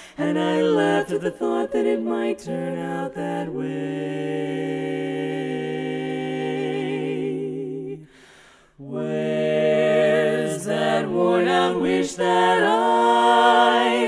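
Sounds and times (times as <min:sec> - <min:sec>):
women singing in close harmony: 0:00.0 - 0:08.1, 0:08.8 - 0:14.0.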